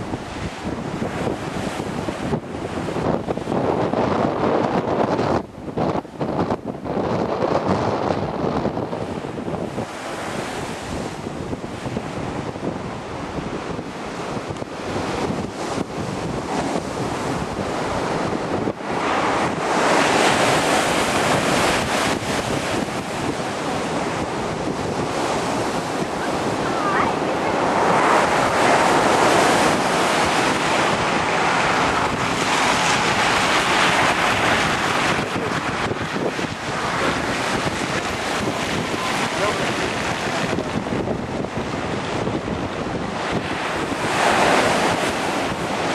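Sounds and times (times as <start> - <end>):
heavy surf breaking: 0.0 - 45.9
wind buffeting microphone: 0.0 - 45.9.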